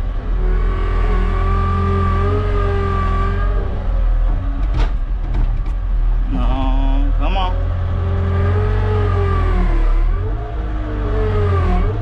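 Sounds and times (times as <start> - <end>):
skid steer engine droning: 0.0 - 12.0.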